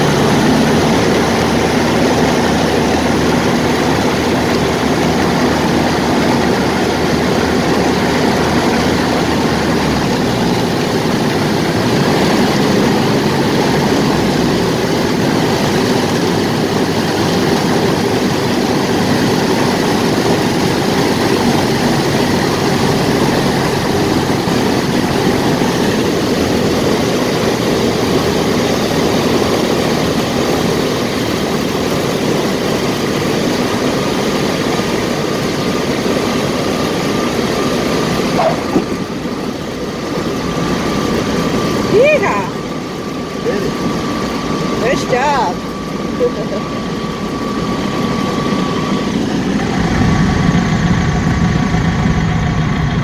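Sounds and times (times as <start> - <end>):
small plane engine and propeller: 0.0 - 53.0.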